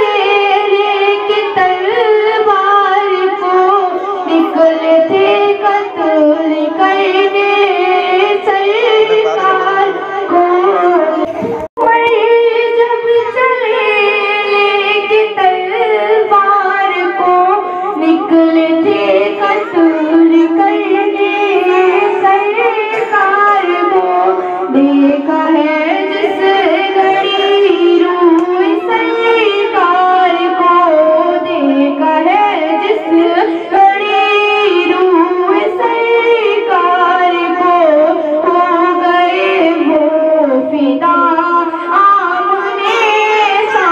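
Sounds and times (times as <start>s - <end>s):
woman singing devotional song: 0.0s - 43.9s.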